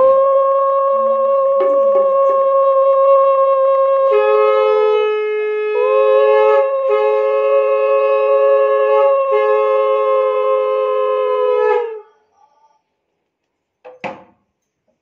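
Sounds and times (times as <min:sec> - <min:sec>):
conch shells blown: 0:00.0 - 0:12.1.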